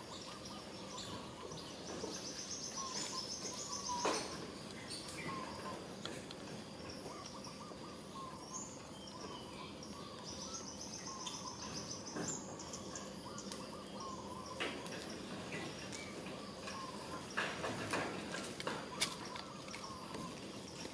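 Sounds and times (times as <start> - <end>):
bird chirps: 0.0 - 20.9
steady background hiss: 0.0 - 20.9.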